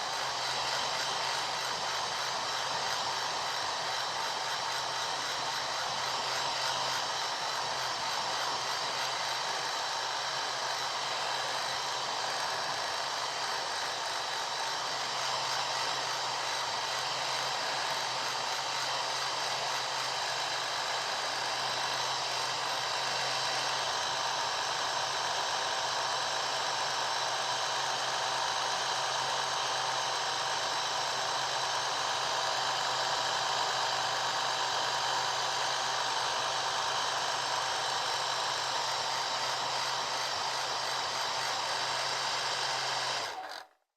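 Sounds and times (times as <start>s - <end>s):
hair dryer running: 0.0s - 43.7s.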